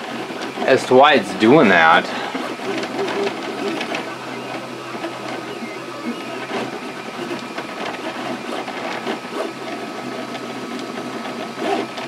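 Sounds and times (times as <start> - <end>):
printer steady hum: 0.0 - 12.0
stepper motors whirring: 0.0 - 12.0.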